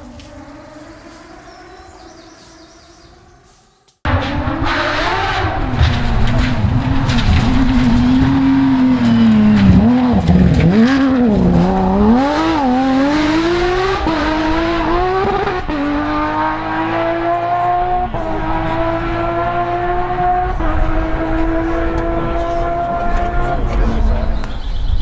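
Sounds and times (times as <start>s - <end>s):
rally car engine revving: 0.0s - 3.0s, 4.1s - 24.6s.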